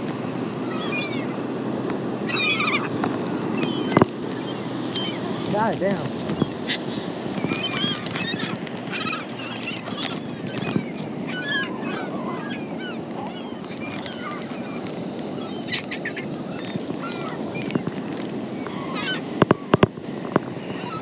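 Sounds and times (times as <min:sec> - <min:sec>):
gulls calling: 0:00.0 - 0:21.0
steady background rush: 0:00.0 - 0:21.0.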